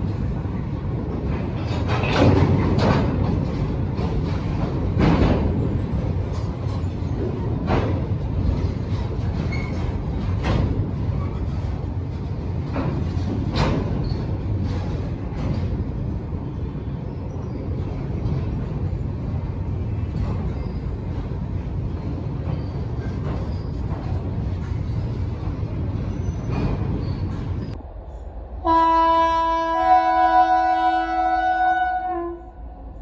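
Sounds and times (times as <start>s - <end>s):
freight train rumbling: 0.0s - 33.0s
train wheels knocking: 0.2s - 16.8s, 17.6s - 27.8s.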